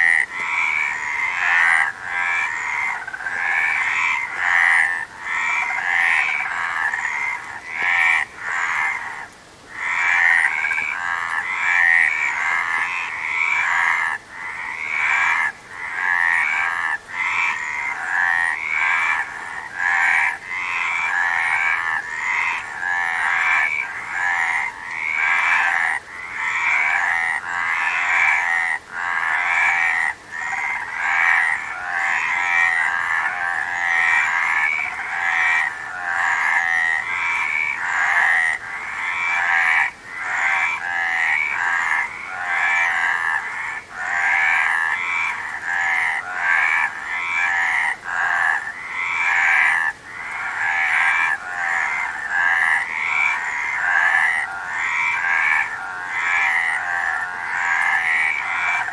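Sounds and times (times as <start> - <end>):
frogs croaking: 0.0 - 58.9.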